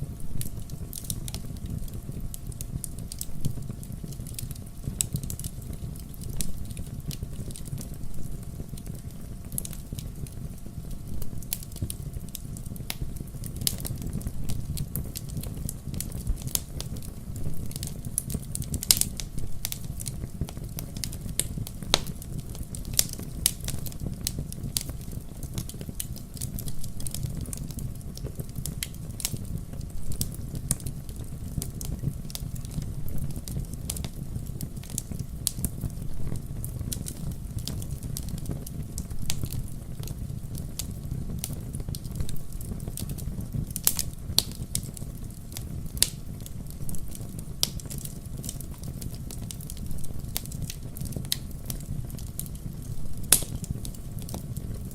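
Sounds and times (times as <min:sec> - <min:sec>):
firewood crackling and popping: 0:00.0 - 0:54.9
low rumble of fire: 0:00.0 - 0:54.9.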